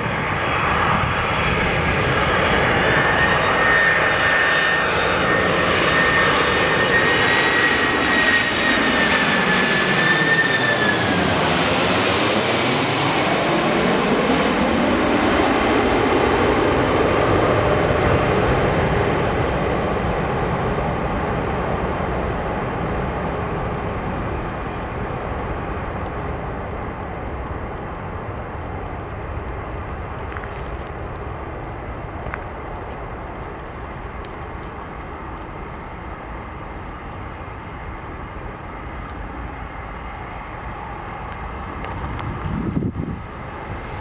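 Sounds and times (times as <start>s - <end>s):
jet airliner passing overhead: 0.0s - 44.0s.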